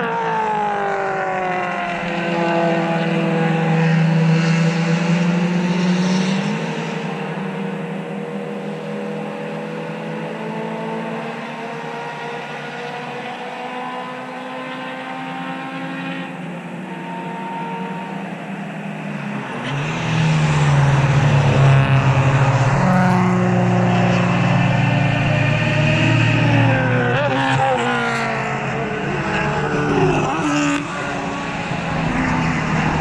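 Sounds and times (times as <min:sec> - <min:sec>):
race cars passing: 0:00.0 - 0:33.0.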